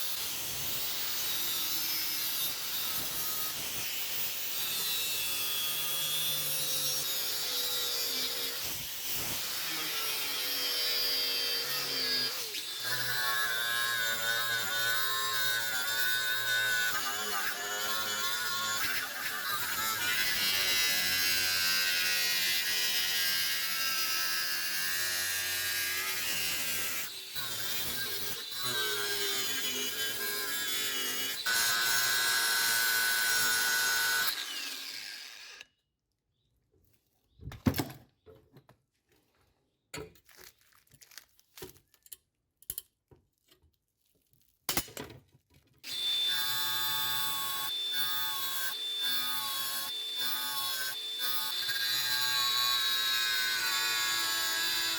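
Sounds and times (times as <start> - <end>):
power tool grinding steel: 0.0 - 35.7, 45.8 - 54.9.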